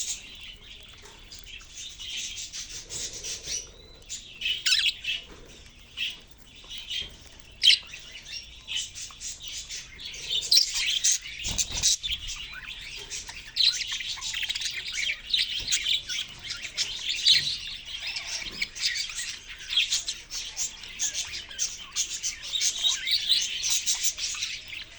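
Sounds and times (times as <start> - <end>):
budgerigars chirping: 0.0 - 24.9.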